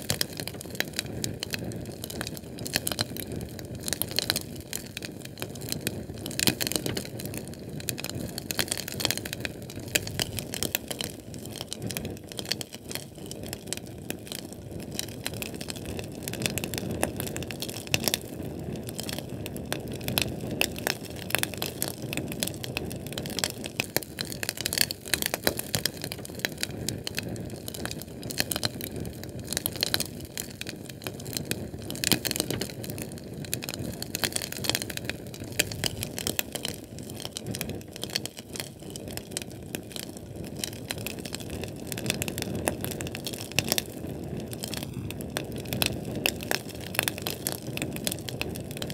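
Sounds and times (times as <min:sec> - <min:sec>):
fire crackling and popping: 0:00.0 - 0:48.9
low rush of flame: 0:00.0 - 0:48.9.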